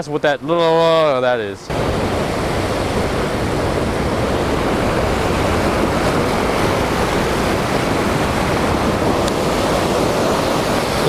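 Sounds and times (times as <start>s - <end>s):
surf breaking on rocks: 1.7s - 11.0s.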